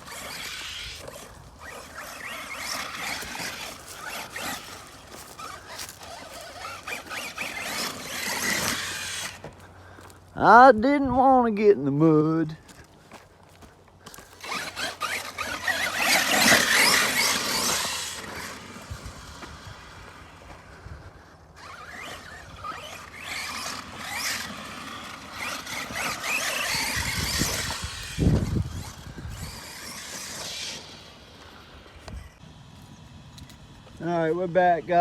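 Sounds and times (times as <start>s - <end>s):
rc truck motor whining: 0.0s - 10.1s, 14.0s - 35.0s.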